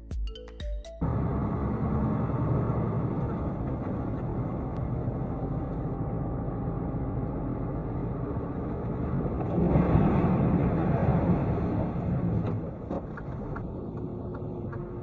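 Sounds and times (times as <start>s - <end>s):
vehicle engine and road noise: 1.0s - 15.0s.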